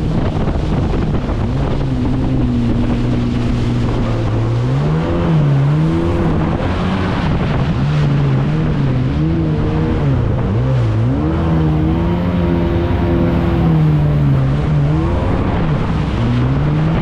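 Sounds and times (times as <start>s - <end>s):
jet ski engine revving: 0.0s - 17.0s
rushing wind and water: 0.0s - 17.0s.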